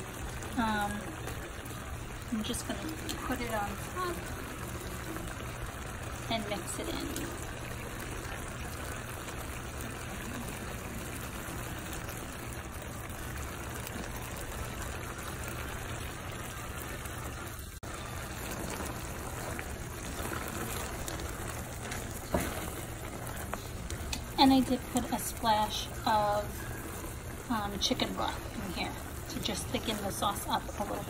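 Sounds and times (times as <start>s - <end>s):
sauce simmering in a pan: 0.0s - 31.0s.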